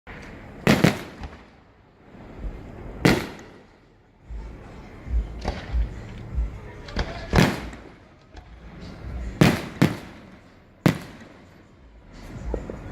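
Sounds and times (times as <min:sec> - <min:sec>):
fireworks exploding: 0:00.1 - 0:04.6, 0:06.9 - 0:12.9.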